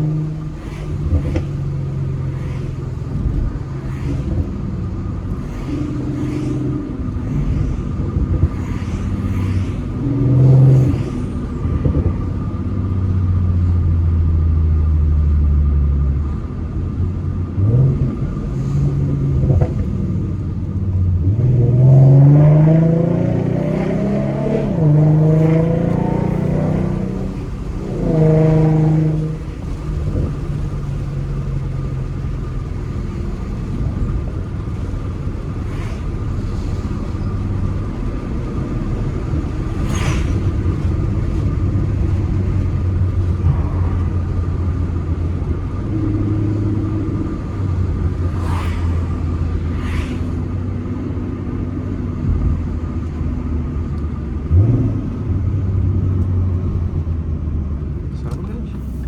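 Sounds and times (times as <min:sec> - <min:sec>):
car engine droning at cruise: 0:00.0 - 0:59.0.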